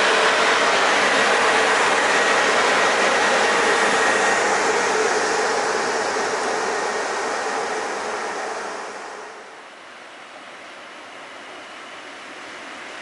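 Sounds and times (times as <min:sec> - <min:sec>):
electric locomotive passing on rails: 0:00.0 - 0:13.0.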